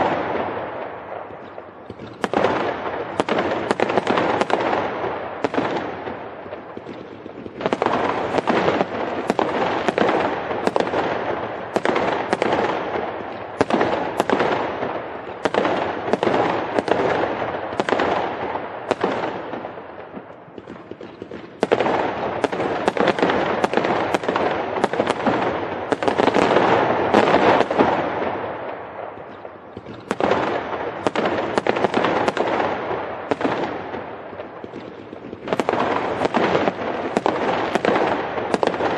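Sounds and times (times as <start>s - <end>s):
fireworks banging and crackling: 0.0s - 38.9s.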